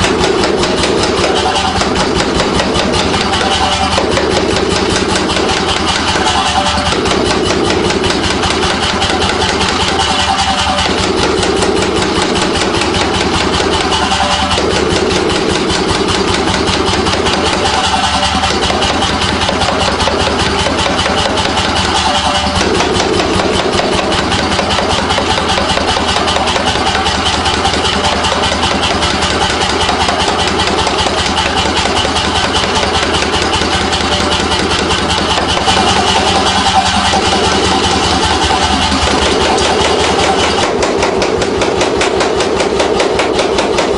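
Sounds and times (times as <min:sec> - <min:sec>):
machine humming: 0:00.0 - 0:43.9
power hammer pounding steel: 0:00.0 - 0:43.9.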